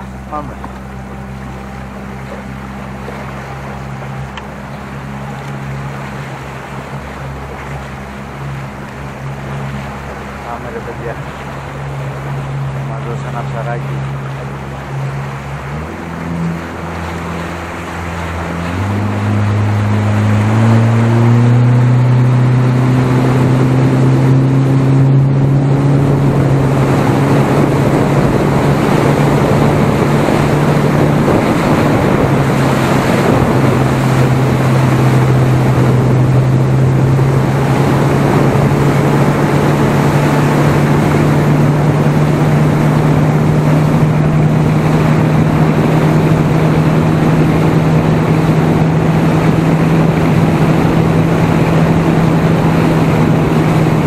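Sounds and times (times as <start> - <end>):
outboard motor running: 0.0 - 54.0
water rushing: 0.0 - 54.0
wind: 0.0 - 54.0.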